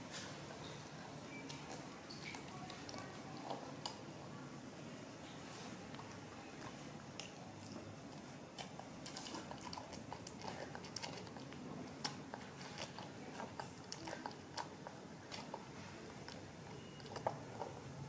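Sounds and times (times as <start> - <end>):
monkey chewing and lip smacking: 1.3 - 4.1, 5.8 - 18.0.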